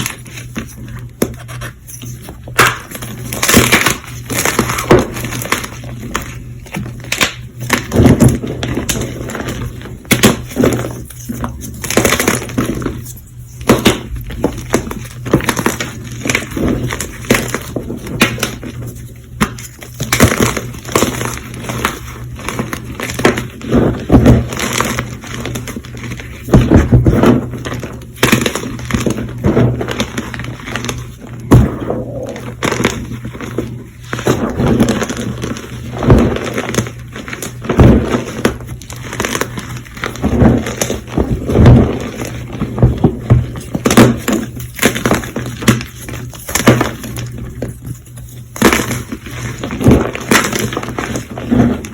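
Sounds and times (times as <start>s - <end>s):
chalk block being crushed: 0.0s - 51.9s.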